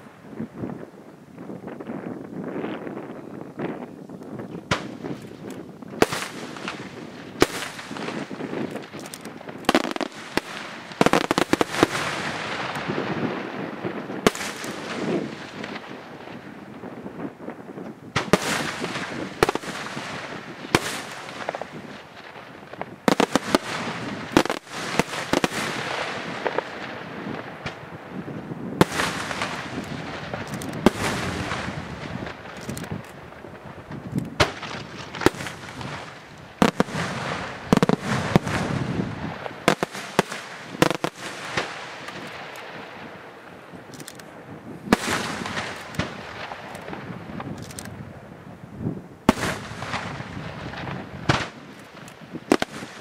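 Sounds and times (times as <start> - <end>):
fireworks bursting: 0.0 - 53.0.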